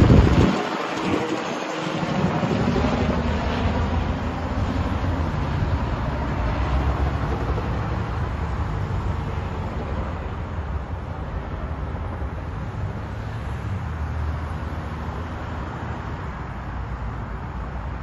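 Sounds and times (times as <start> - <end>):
helicopter rotor and engine: 0.0 - 18.0.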